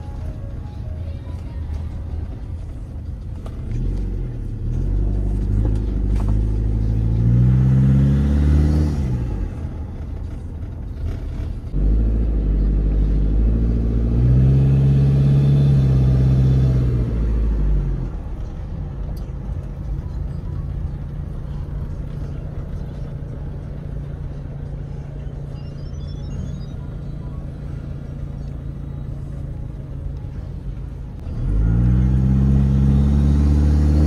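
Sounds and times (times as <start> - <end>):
car engine accelerating: 2.1 - 34.0.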